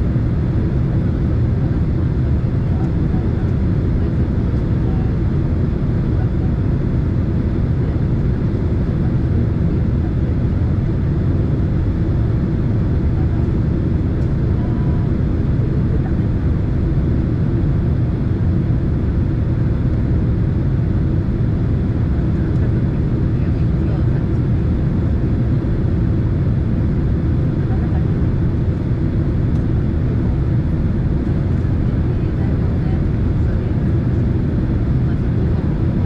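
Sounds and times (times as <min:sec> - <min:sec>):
airliner cabin roar: 0:00.0 - 0:36.0.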